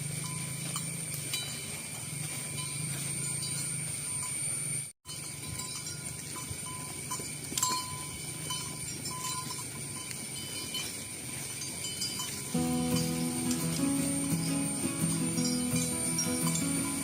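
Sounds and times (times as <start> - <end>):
outdoor noise: 0.0 - 17.0.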